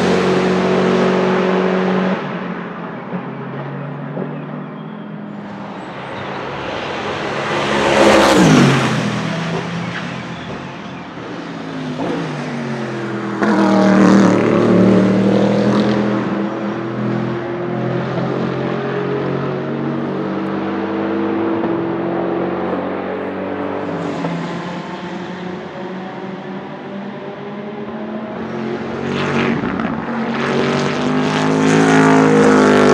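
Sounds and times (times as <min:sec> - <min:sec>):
race car engine passing at speed: 0:00.0 - 0:04.2, 0:05.3 - 0:32.9.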